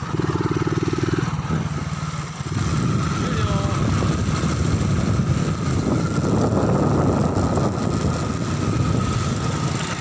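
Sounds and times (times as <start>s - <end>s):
motorcycle engine running: 0.0s - 10.0s
wind on microphone: 1.2s - 10.0s.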